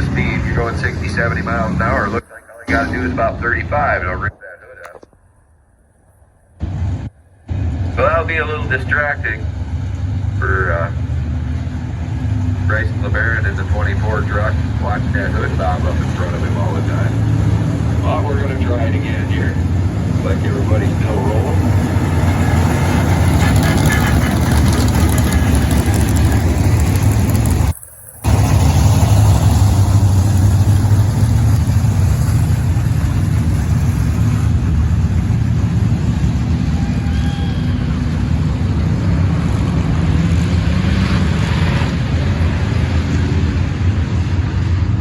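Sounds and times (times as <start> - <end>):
race truck engines running: 0.0 - 5.2, 6.6 - 45.0.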